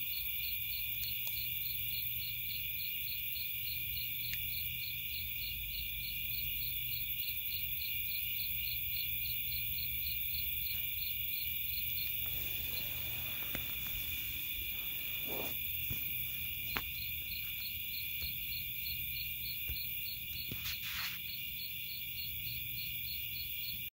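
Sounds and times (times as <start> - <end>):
night insects trilling: 0.0 - 23.9.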